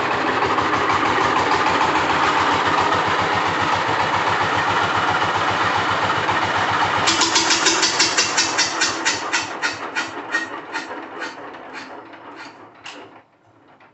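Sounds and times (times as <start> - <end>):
diesel engine running: 0.0 - 13.2
engine coasting to a stop: 0.0 - 13.9.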